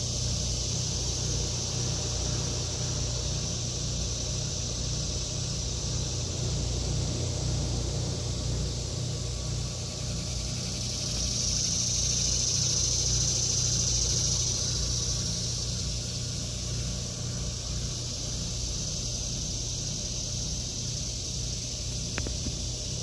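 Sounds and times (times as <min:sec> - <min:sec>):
cicadas buzzing: 0:00.0 - 0:23.0
low steady hum: 0:00.0 - 0:23.0.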